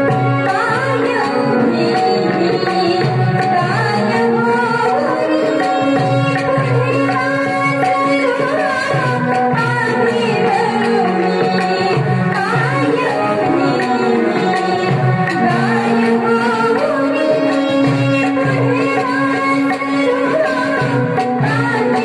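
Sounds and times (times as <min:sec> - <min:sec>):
harmonium: 0:00.0 - 0:22.0
keyboard: 0:00.0 - 0:22.0
tabla rhythm: 0:00.0 - 0:22.0.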